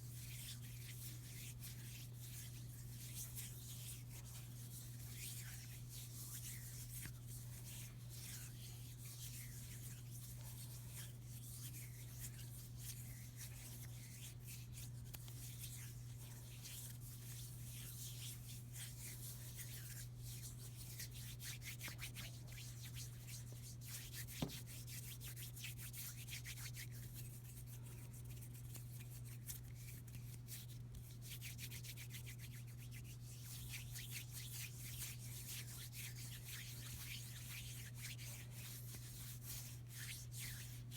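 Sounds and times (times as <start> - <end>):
low electrical hum: 0.0 - 40.9
hands rubbing together: 0.2 - 40.9.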